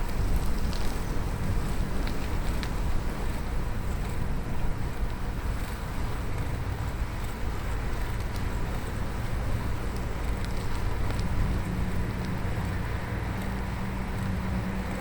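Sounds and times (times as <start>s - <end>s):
bicycle rolling on road: 0.0s - 15.0s
wind on microphone: 0.0s - 15.0s
faint ticks: 0.1s - 3.4s, 5.0s - 14.3s.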